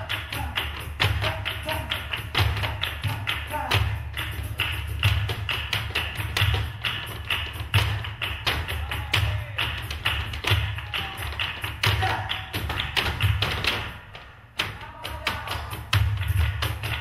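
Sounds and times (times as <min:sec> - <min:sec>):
dance shoes tapping wooden stage: 0:00.0 - 0:17.0.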